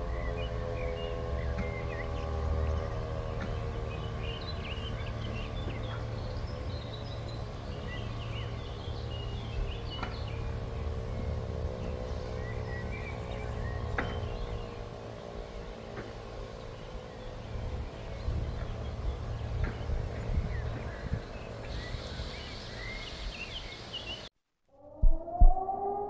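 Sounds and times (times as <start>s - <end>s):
birds chirping: 0.0s - 24.3s.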